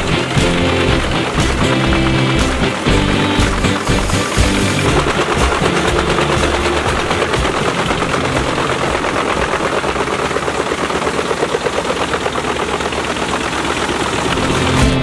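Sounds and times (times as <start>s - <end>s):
wood chipper chipping logs: 0.0s - 15.0s.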